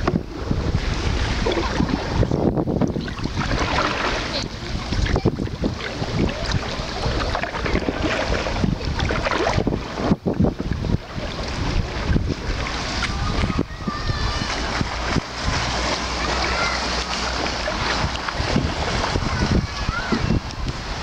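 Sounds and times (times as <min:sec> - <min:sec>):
water splashing against hull: 0:00.0 - 0:21.0
wind buffeting microphone: 0:00.0 - 0:21.0.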